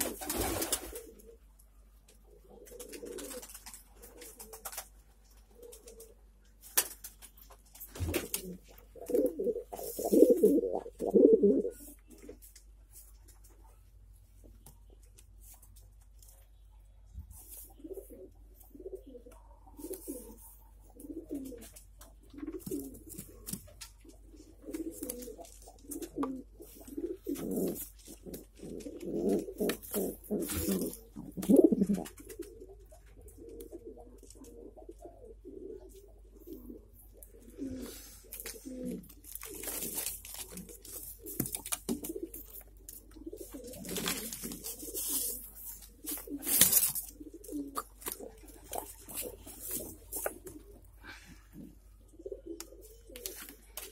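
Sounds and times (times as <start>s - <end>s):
pigeons cooing: 0.0s - 6.6s, 8.0s - 12.5s, 17.4s - 53.9s
rustling: 0.0s - 35.0s, 35.9s - 50.9s.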